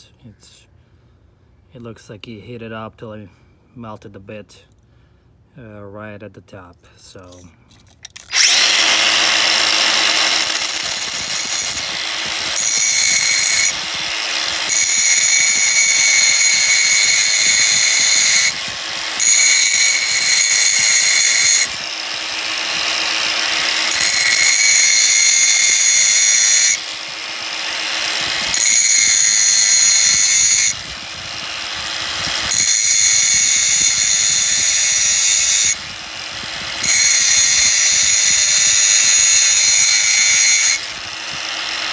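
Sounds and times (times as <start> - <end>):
drill bit sharpener grinding: 8.2 - 41.9.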